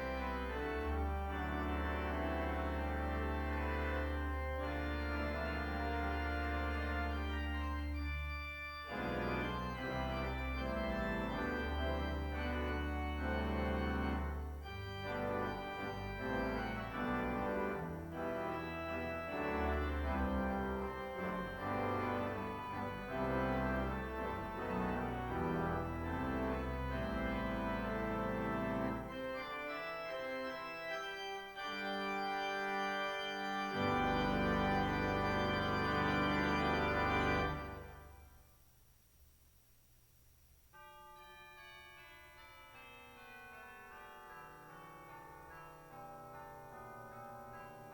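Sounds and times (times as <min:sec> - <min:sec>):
organ chords: 0:00.0 - 0:38.5.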